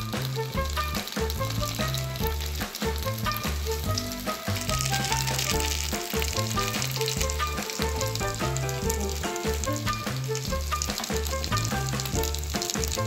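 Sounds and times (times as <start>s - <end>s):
background music with bass line: 0.0s - 13.0s
vegetables sizzling in oil: 0.0s - 13.0s.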